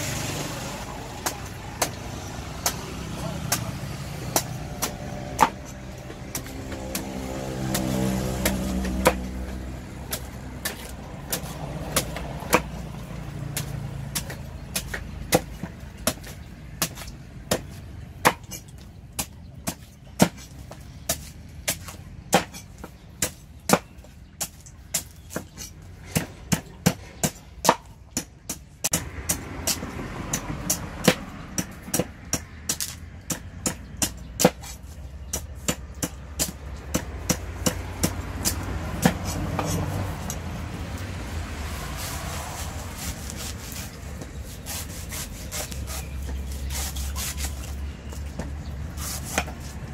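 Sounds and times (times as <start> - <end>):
low traffic rumble: 0.0 - 49.9
knife chopping coconut husk: 0.4 - 49.9.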